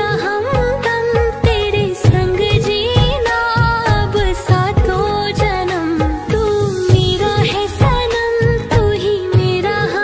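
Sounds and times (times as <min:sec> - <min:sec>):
ornamented singing: 0:00.0 - 0:10.0
steady drum beat: 0:01.2 - 0:09.6.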